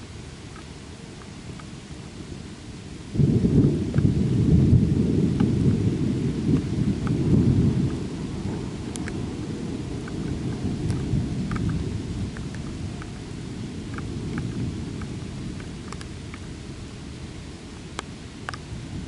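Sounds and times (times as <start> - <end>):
rain: 0.0 - 19.0
deep rolling thunder: 3.1 - 19.0.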